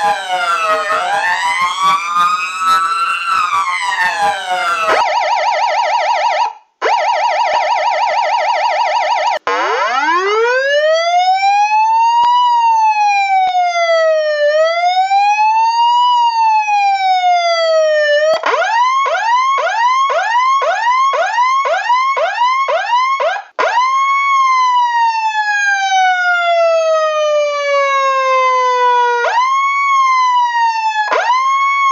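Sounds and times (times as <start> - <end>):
electronic emergency siren: 0.0 - 31.9.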